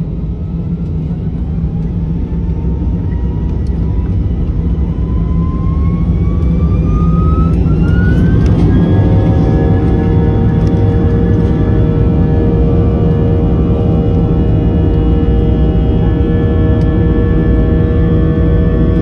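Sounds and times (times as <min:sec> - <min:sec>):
engine whine rising in pitch: 0:00.0 - 0:19.0
jet engines spooling up: 0:00.0 - 0:19.0.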